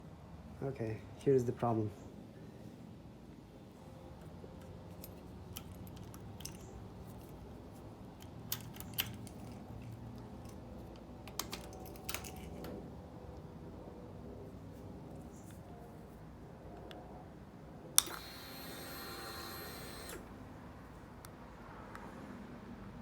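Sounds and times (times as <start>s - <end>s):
faint low hum: 0.4s - 23.0s.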